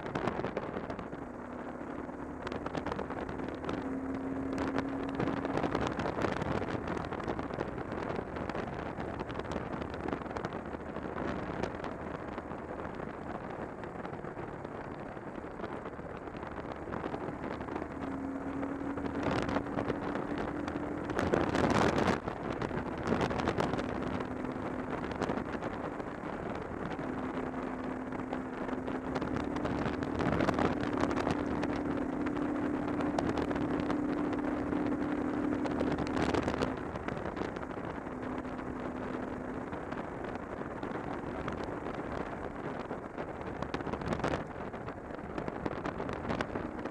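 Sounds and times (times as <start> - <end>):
motorcycle engine humming: 0.0 - 46.9
wind rush on microphone: 0.0 - 46.9.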